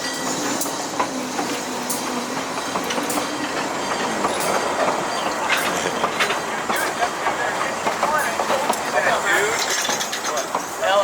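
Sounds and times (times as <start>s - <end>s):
rail joint clicks: 0.0s - 11.0s
train wheels rumbling on track: 0.0s - 11.0s.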